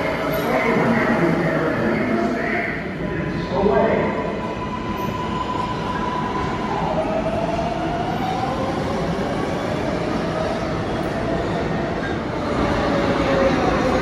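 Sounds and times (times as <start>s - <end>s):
subway train rumbling: 0.0s - 14.0s.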